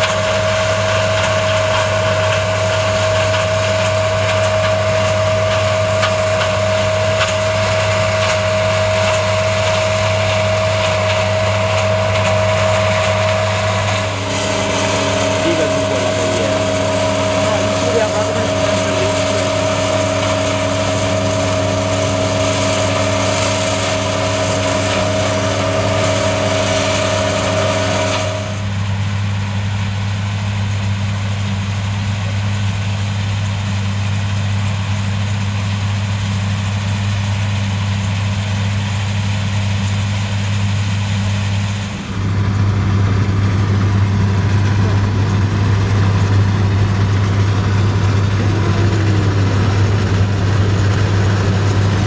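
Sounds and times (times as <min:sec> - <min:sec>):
high whine: 0:00.0 - 0:30.1, 0:40.3 - 0:52.0
combine harvester engine hum: 0:00.0 - 0:52.0.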